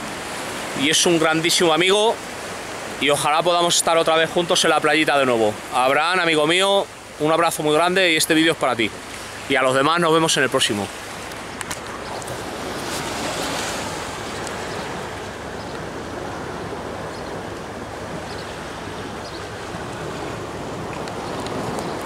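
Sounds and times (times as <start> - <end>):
waves washing over rocks: 0.0 - 22.0.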